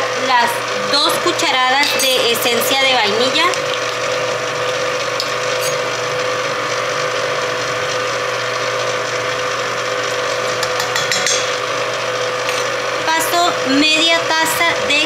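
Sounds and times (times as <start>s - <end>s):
electric stand mixer whining: 0.0s - 15.0s.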